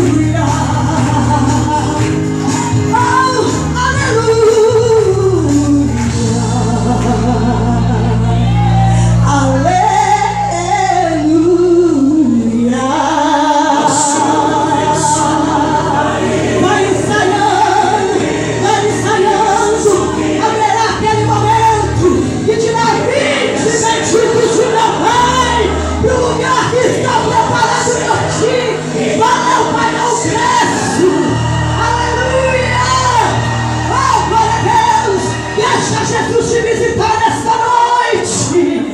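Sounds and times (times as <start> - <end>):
band playing: 0.0 - 11.4, 13.7 - 38.8
low bass notes: 0.0 - 13.4, 14.2 - 37.5
gospel singing with vibrato: 0.0 - 38.9.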